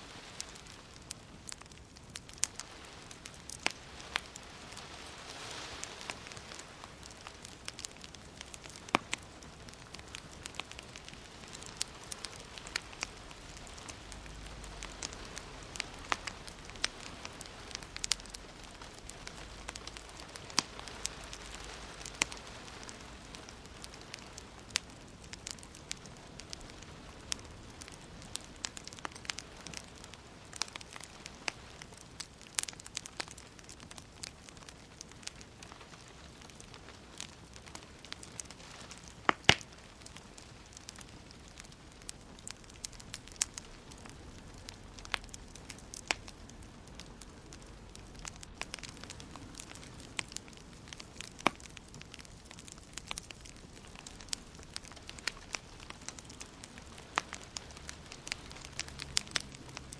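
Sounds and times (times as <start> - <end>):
gentle rain hissing: 0.0 - 59.9
wood fire crackling: 0.0 - 59.9.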